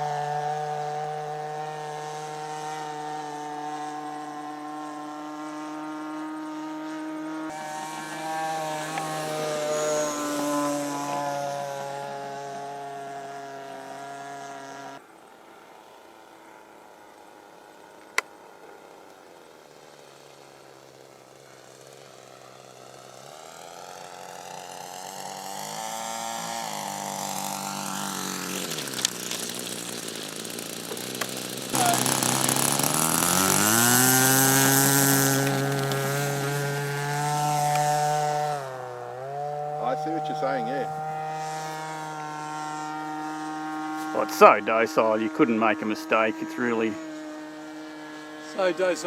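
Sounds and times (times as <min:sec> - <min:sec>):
drone propellers whining: 0:00.0 - 0:14.1, 0:15.5 - 0:49.0.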